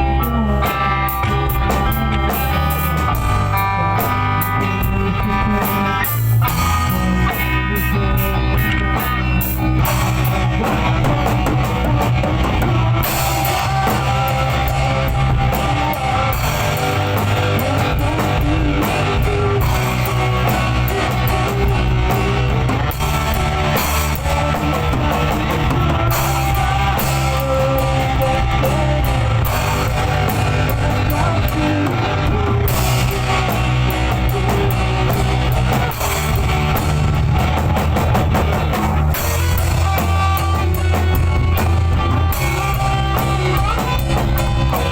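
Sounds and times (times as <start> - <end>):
drum kit: 0.0 - 44.9
electric guitar: 0.0 - 44.9.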